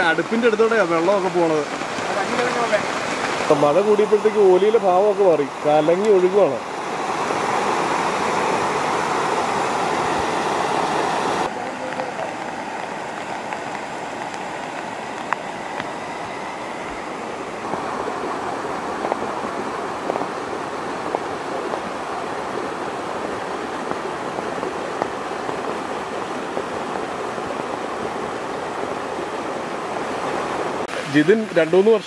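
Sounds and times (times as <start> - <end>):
heavy rain: 0.0 - 32.0
stream rushing over rocks: 0.0 - 32.0.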